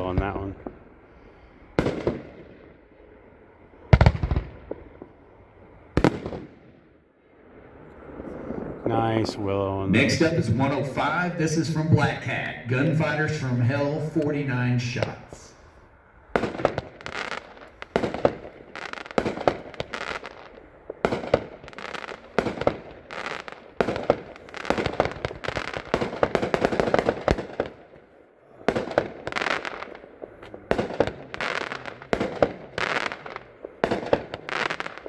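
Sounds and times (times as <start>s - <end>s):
fireworks launching and bursting: 1.7s - 2.9s, 3.9s - 7.0s, 9.9s - 35.0s.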